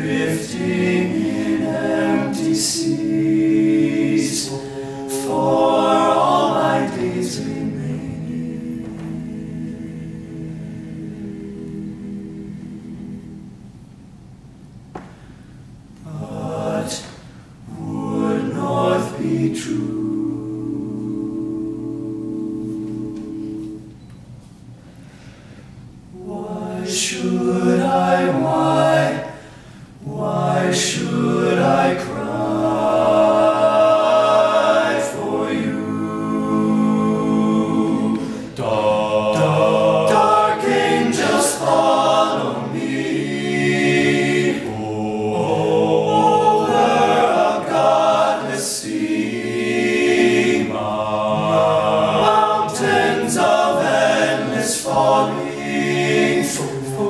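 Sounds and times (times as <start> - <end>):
male choir singing a cappella: 0.0 - 13.6, 16.0 - 24.1, 26.1 - 57.0.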